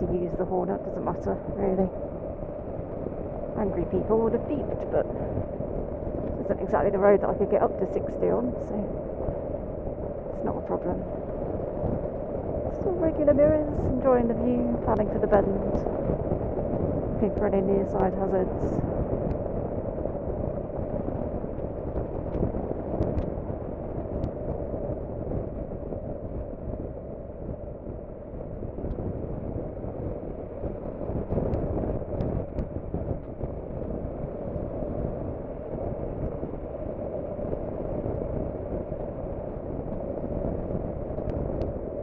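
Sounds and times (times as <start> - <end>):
wind rush on microphone: 0.0 - 42.0.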